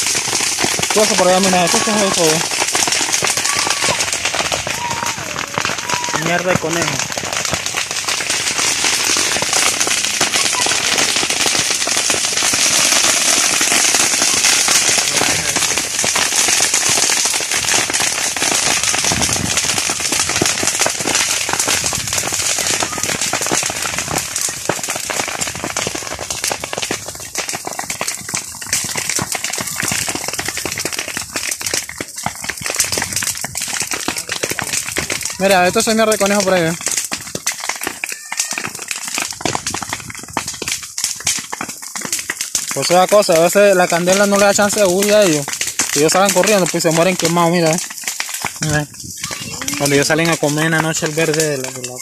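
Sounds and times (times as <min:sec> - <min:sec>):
grass fire crackling: 0:00.0 - 0:52.0.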